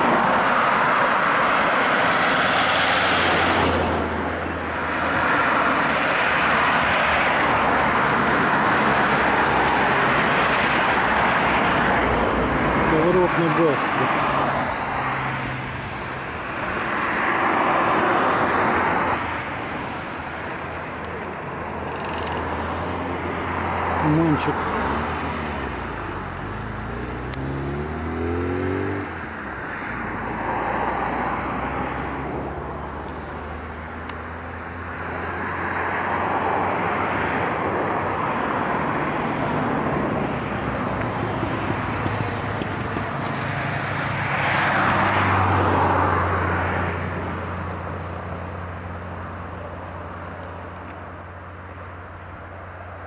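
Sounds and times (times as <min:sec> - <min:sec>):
car engine hum: 0:00.0 - 0:53.0
road and tyre noise: 0:00.0 - 0:53.0.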